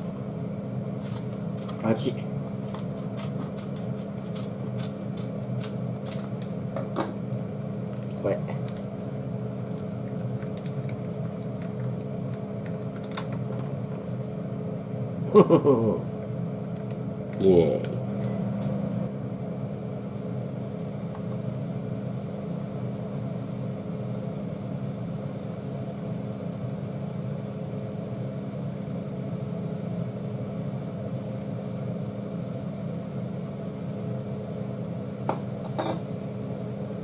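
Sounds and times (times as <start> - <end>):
kitchen appliance fan humming: 0.0 - 37.0.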